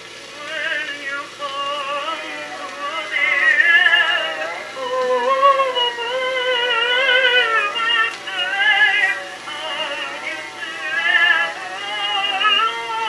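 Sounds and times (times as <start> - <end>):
woman singing on old record: 0.0 - 13.0.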